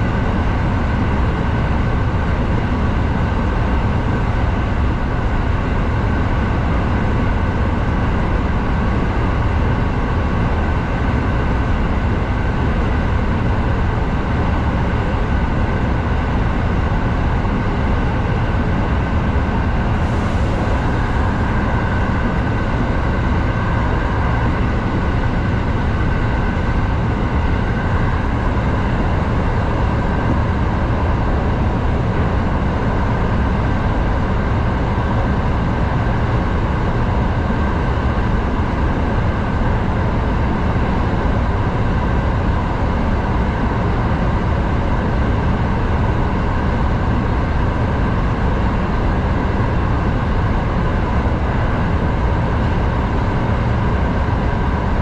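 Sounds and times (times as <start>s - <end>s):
faint steady whine: 0.0s - 55.0s
train wheel-on-rail rumble: 0.0s - 55.0s.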